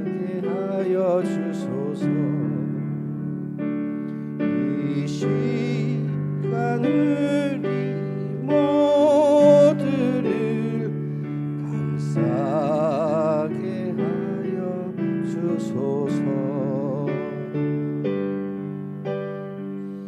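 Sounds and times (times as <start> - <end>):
person singing a hymn: 0.0 - 3.1, 4.1 - 18.2
piano chords: 0.0 - 20.0.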